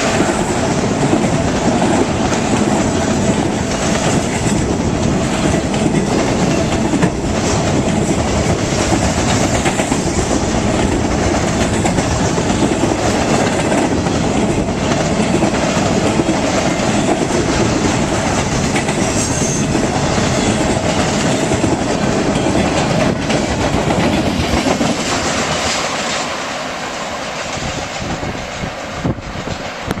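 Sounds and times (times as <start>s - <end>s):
freight train rumbling past: 0.0s - 30.0s
wheels clacking over rail joints: 0.0s - 30.0s.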